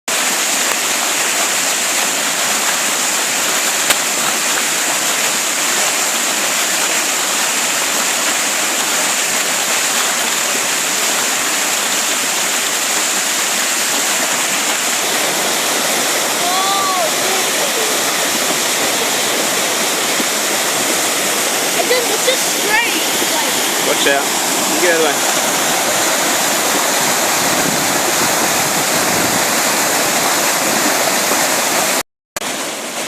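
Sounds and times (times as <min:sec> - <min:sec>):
floodwater rushing: 0:00.1 - 0:33.0.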